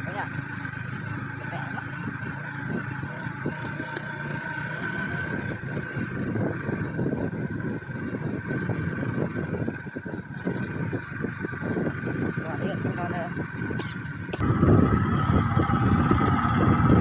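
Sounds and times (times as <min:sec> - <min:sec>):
motorcycle engine running: 0:00.0 - 0:17.0
rumbling buffeting over dirt track: 0:00.0 - 0:17.0
wind on microphone: 0:00.9 - 0:17.0.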